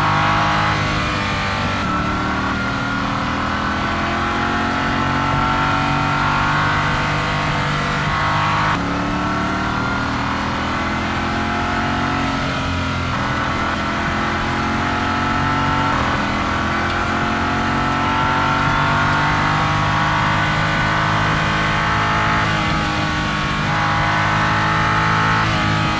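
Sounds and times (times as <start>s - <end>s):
car engine running: 0.0s - 25.9s.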